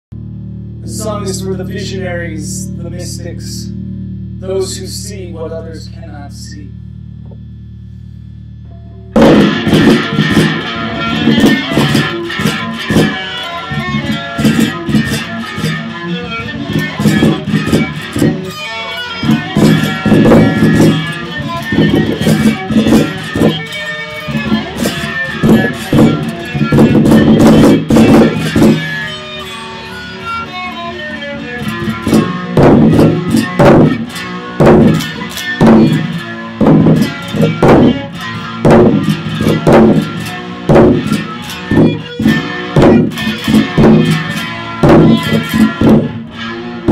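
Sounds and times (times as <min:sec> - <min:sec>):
electric guitar strumming: 0:00.1 - 0:46.9.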